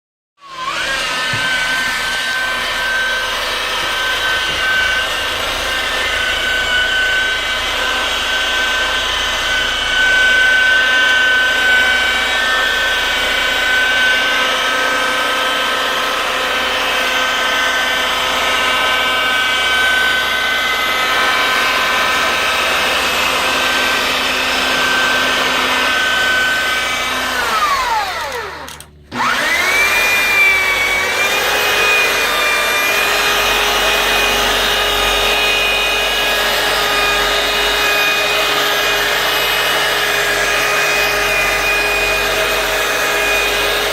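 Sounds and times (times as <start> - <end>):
power tool motor whining: 0.4 - 43.9.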